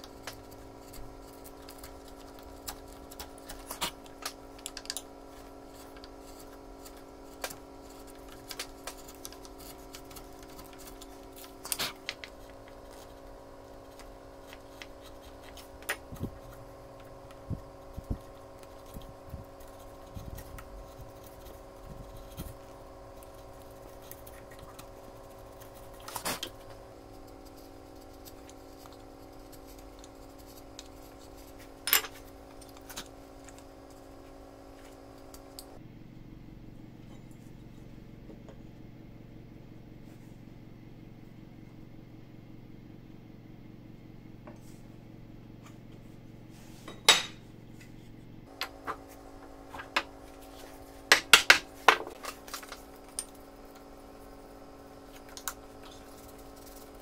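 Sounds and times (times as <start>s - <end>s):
steady multi-tone hum: 0.0s - 57.0s.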